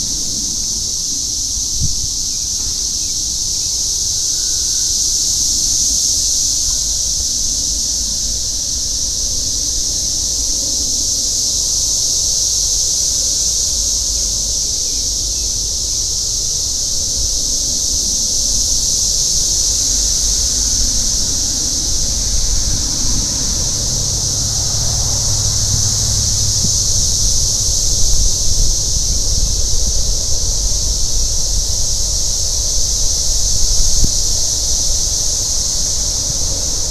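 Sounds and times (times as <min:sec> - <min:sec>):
insects buzzing: 0:00.0 - 0:36.9
wind rumble on microphone: 0:00.0 - 0:36.9.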